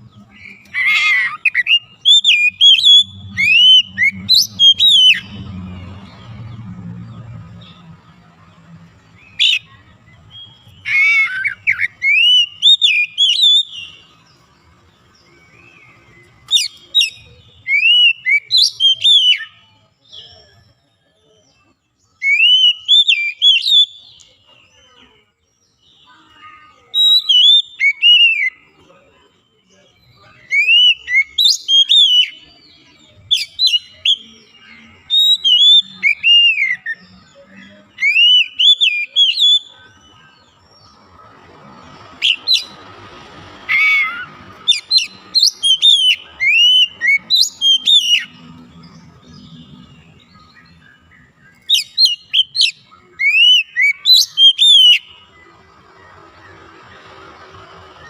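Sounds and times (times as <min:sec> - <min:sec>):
bird singing whistled notes: 0:00.0 - 0:08.2, 0:08.9 - 0:41.1, 0:41.8 - 0:42.9, 0:43.7 - 0:58.0.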